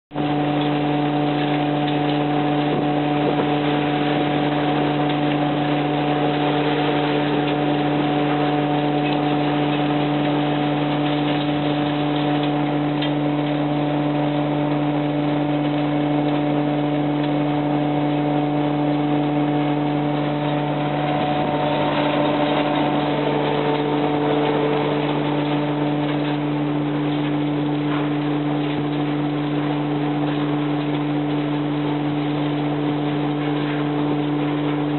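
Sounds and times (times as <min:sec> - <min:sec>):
continuous noisy rattle: 0:00.1 - 0:34.9
steady machine hum: 0:00.1 - 0:34.9.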